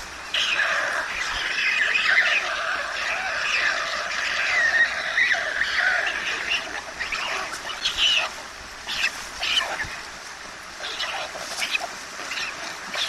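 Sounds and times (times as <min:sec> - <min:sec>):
stork chicks squeaky begging calls: 0:00.3 - 0:10.0, 0:10.8 - 0:13.0.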